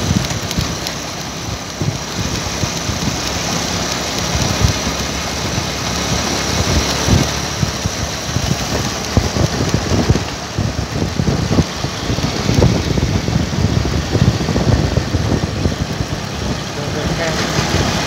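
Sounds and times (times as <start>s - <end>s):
low rumbling thumps: 0.0s - 18.0s
vehicle engine roar: 0.0s - 18.0s.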